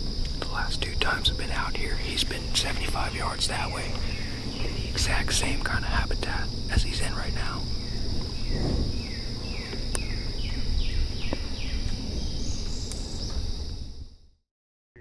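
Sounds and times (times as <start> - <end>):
low microphone rumble: 0.0 - 14.0
insects droning: 0.0 - 14.4.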